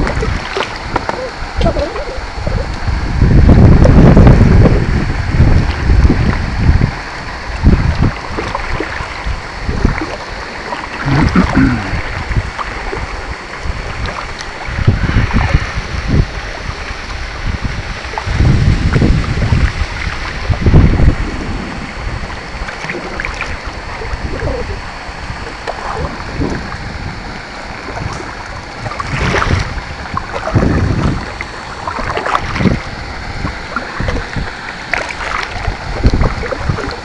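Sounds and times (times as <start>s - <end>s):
water sloshing around kayak: 0.0s - 2.9s, 5.5s - 37.0s
wind buffeting microphone: 0.0s - 37.0s.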